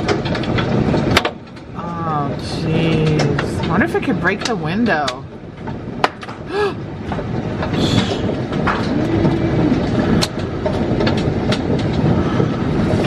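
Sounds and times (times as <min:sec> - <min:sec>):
hail clattering: 0:00.0 - 0:13.0.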